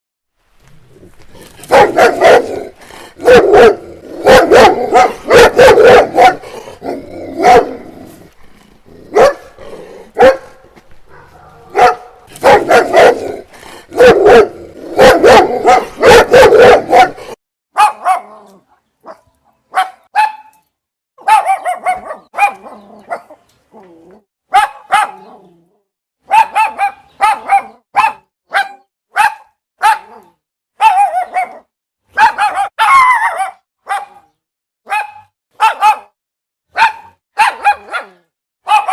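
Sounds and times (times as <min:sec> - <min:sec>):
dogs barking: 0:01.6 - 0:08.0, 0:09.0 - 0:20.5, 0:21.2 - 0:23.4, 0:24.5 - 0:25.4, 0:26.2 - 0:30.2, 0:30.8 - 0:34.3, 0:34.9 - 0:38.9.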